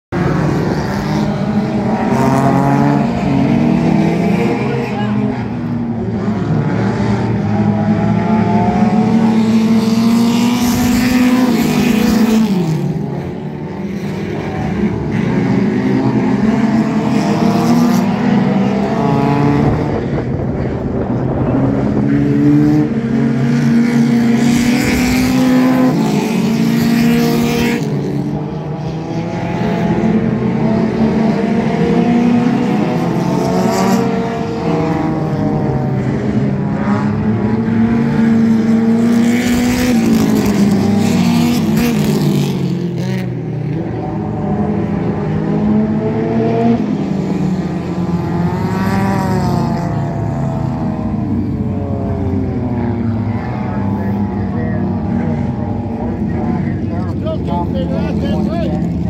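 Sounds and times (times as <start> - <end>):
race car engines at full throttle: 0.0 - 59.0.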